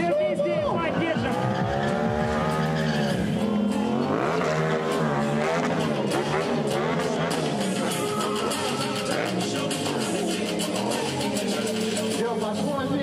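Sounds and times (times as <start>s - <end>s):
motorcycle engine revving: 0.6s - 13.0s.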